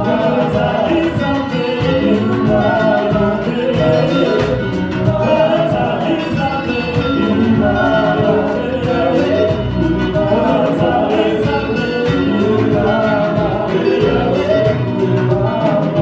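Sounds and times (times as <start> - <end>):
group singing: 0.0 - 16.0
worship band playing gospel: 0.0 - 16.0.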